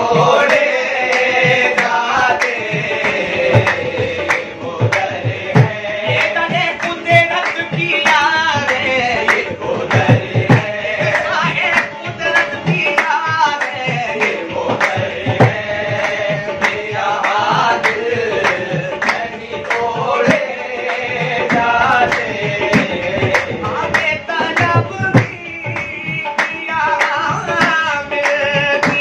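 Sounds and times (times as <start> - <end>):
hand drum: 0.0 - 29.0
harmonium: 0.0 - 29.0
lead voice singing: 0.0 - 29.0
male chorus singing: 0.0 - 29.0
hand-clapping: 0.4 - 29.0.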